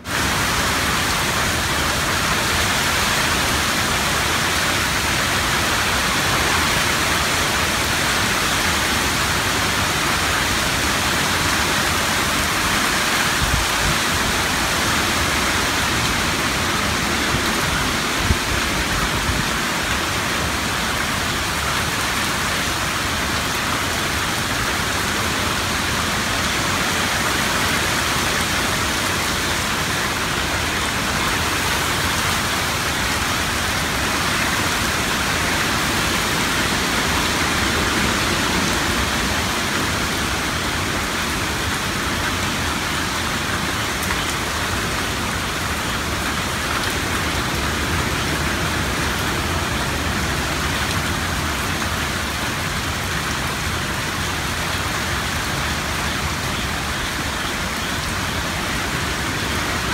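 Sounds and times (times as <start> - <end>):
hurricane rain and wind: 0.0 - 59.9.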